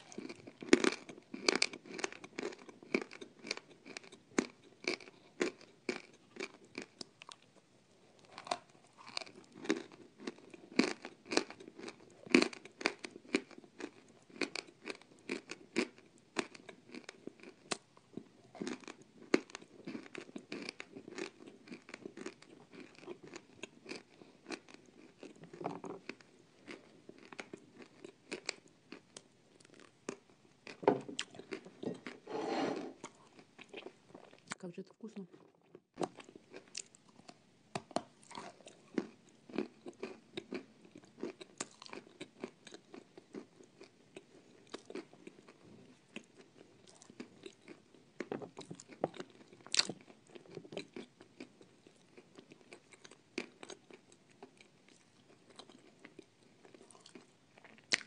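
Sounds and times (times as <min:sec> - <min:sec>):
crunching cookies: 0:00.0 - 0:32.4, 0:35.7 - 0:58.0.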